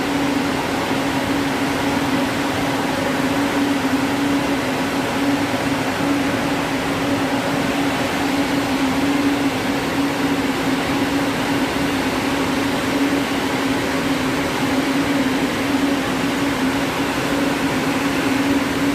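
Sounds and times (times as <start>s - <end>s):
mill machinery droning: 0.0s - 18.9s.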